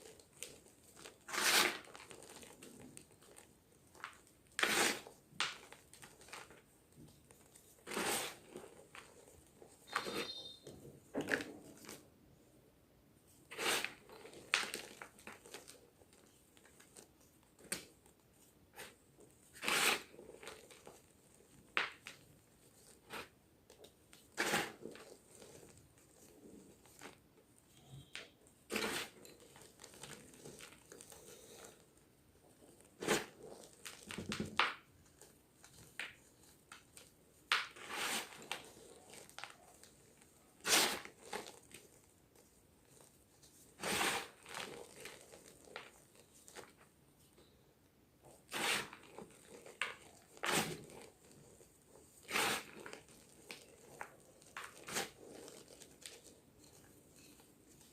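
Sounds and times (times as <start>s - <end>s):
chalk crunching: 0.0s - 10.7s, 13.5s - 17.8s, 18.7s - 23.4s, 24.1s - 27.2s, 32.5s - 46.9s, 48.2s - 57.9s.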